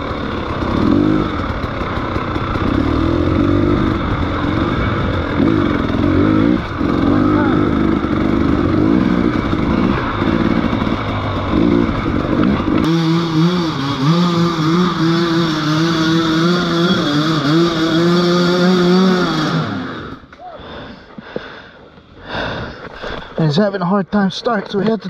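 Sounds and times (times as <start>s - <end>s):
motorcycle engine: 0.0s - 23.3s.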